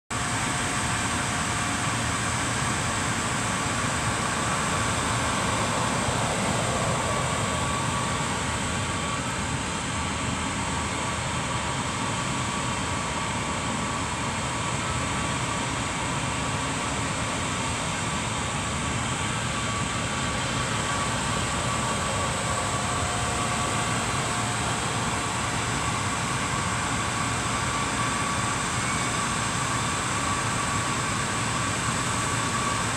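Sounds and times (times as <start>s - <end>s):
outdoor hum and hiss: 0.1s - 32.9s
faint high whine: 0.2s - 32.9s.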